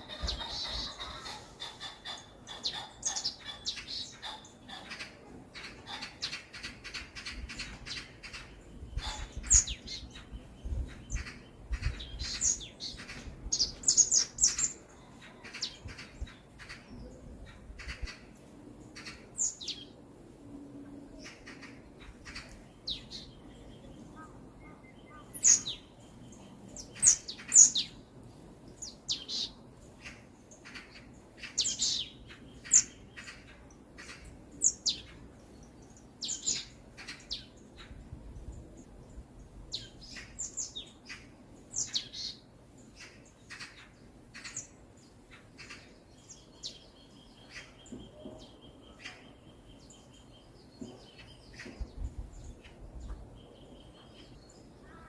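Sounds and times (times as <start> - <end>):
faint low background hiss: 0.0 - 55.0
songbirds chirping: 0.0 - 55.0.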